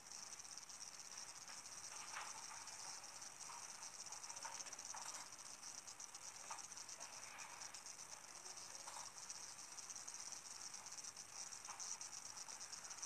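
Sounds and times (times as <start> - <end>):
high-pitched fluttering chirring: 0.1 - 13.0.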